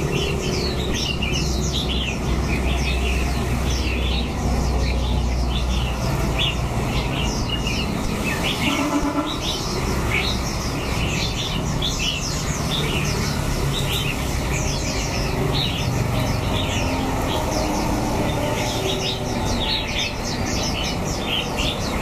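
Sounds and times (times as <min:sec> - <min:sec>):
small songbirds chirping: 0:00.0 - 0:22.0.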